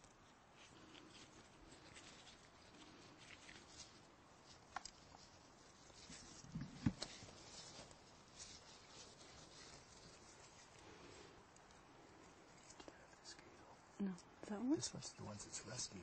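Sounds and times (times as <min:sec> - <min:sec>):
light rustling: 0:00.0 - 0:14.0.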